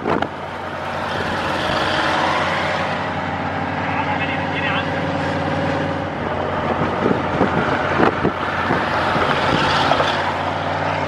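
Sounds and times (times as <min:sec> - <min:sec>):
tyre and wind noise: 0:00.0 - 0:03.2, 0:05.2 - 0:11.0
vehicle engine drone: 0:00.0 - 0:11.0.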